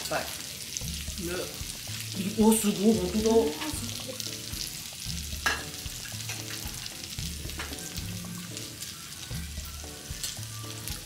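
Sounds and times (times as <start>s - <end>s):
pork sizzling on grill plate: 0.0s - 11.0s.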